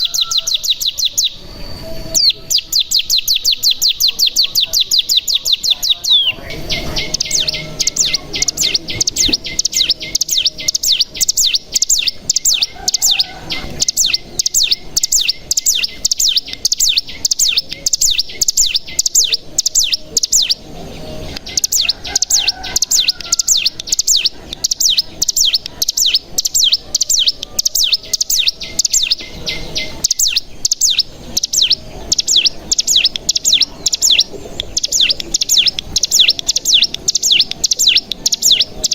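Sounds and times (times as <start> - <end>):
bird singing fast chattering trill: 0.0 - 38.9.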